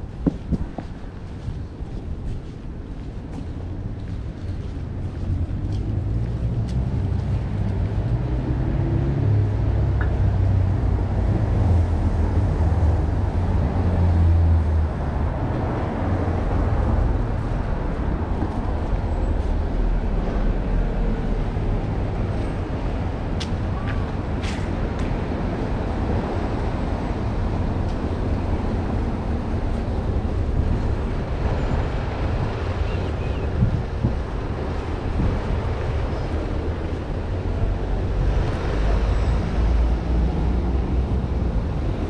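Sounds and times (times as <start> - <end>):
engine rumble of passing vehicles: 0.0 - 42.0.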